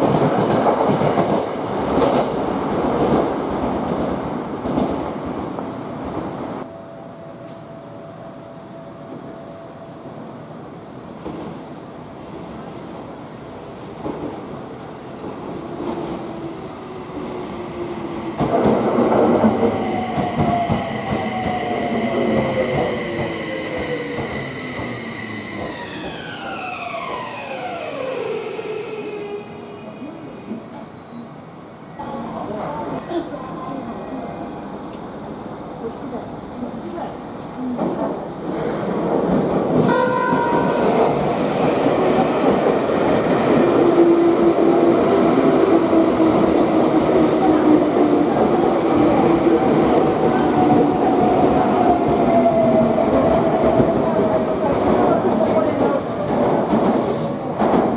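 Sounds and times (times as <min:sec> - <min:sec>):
electric train rumbling: 0:00.0 - 0:57.9.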